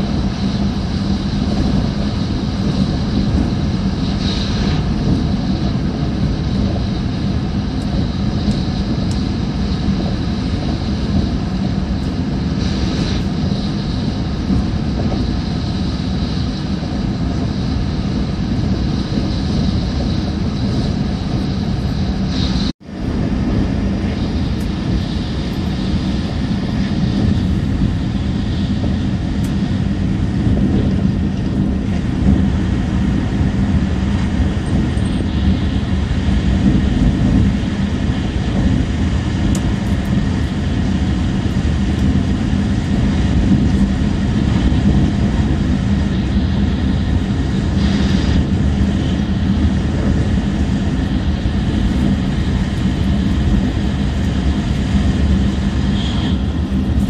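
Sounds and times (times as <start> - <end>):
train cabin rumble and hum: 0.0 - 57.0.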